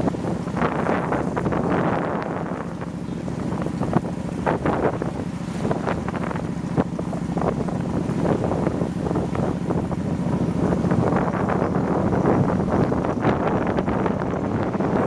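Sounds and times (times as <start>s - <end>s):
low motorbike rumble: 0.0s - 15.0s
wind buffeting microphone: 0.0s - 15.0s.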